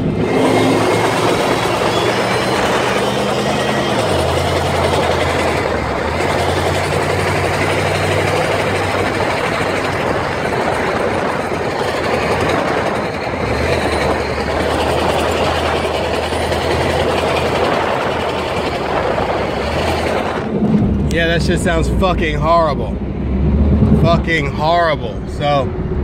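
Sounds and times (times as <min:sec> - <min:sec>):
loud continuous vehicle noise: 0:00.0 - 0:26.0
low hum: 0:00.0 - 0:26.0.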